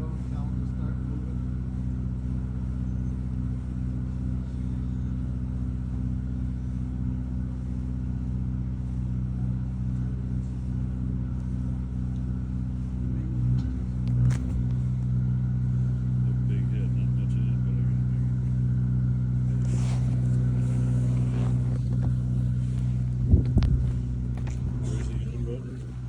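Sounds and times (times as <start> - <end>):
boat engine idling: 0.0 - 26.0.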